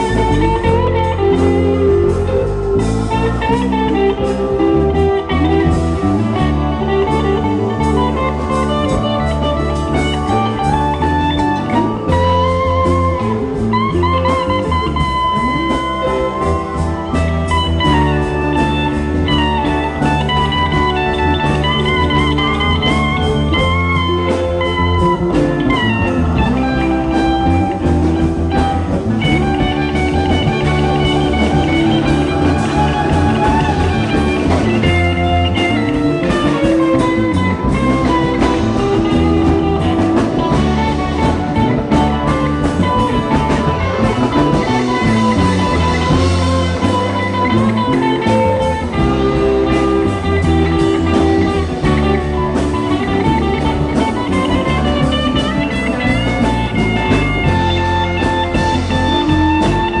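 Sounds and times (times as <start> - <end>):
bending electric guitar notes: 0.0 - 60.0
live rock band playing: 0.0 - 60.0.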